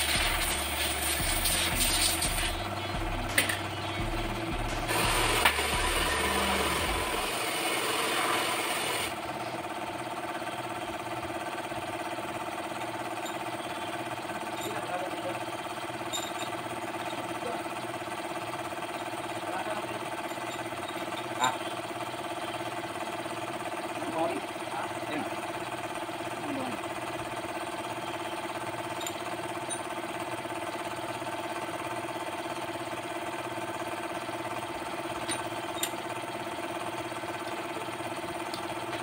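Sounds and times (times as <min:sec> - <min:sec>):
machine humming: 0:00.0 - 0:39.0.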